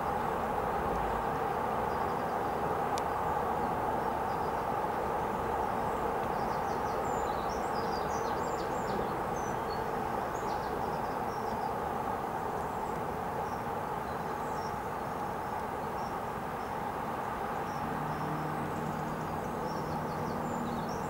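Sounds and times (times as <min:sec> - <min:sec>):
outdoor background hiss and hum: 0:00.0 - 0:21.0
small birds chirping: 0:01.3 - 0:21.0.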